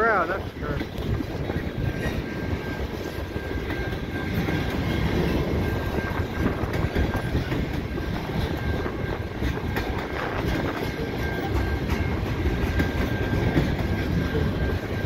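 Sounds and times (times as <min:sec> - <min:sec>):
train wheels clacking over rails: 0:00.0 - 0:15.0.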